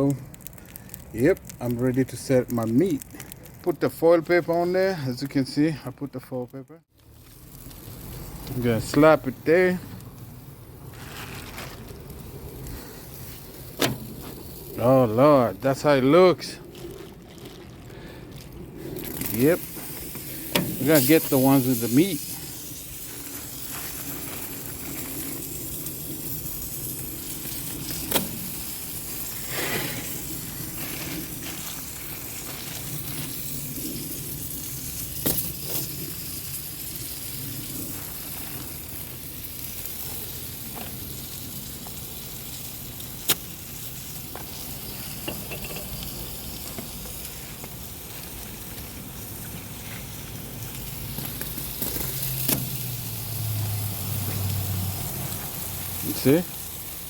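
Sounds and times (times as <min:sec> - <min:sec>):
meat sizzling on grill: 0:00.0 - 0:57.0.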